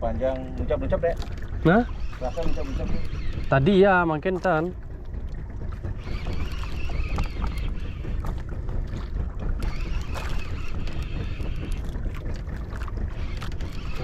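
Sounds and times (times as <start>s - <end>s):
boat rumble: 0.0s - 14.0s
wind buffeting microphone: 0.0s - 14.0s.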